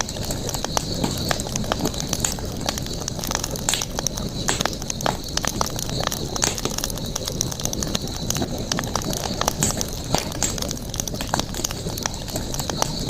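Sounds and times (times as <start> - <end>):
campfire crackling: 0.0 - 13.0
steady high-pitched hiss: 0.0 - 13.0.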